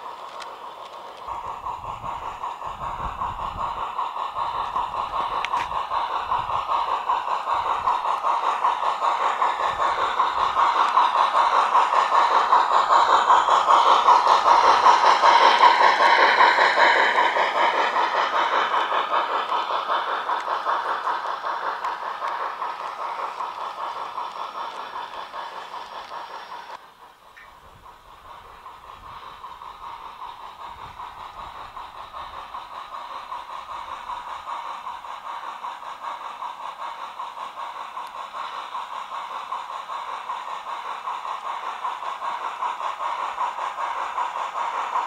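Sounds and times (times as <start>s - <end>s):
model train rolling clatter: 0.0s - 45.0s.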